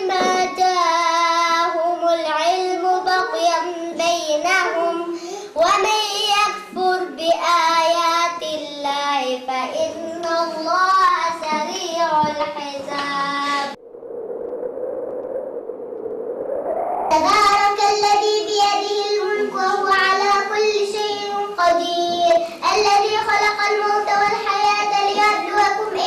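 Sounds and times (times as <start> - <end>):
boy singing a chant: 0.0 - 13.8, 17.1 - 26.0.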